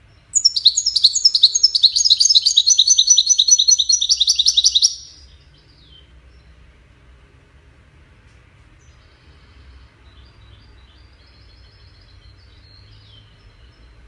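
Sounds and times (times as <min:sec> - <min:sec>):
bird twittering song: 0:00.0 - 0:06.6, 0:08.8 - 0:14.0
faint low hum: 0:00.0 - 0:14.0.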